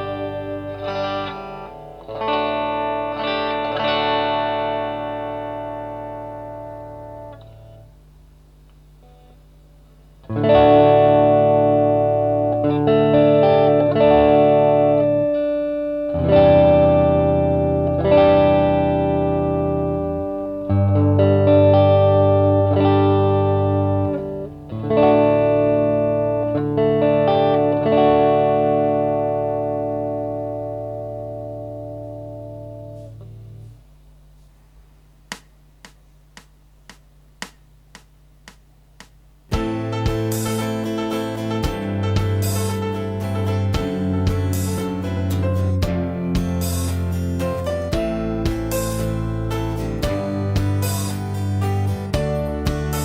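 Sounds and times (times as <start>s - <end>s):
backing track with bass notes: 0.0s - 8.0s, 10.1s - 34.5s, 35.2s - 53.0s
electric guitar strumming chords: 0.0s - 9.5s, 10.1s - 33.9s, 39.1s - 53.0s.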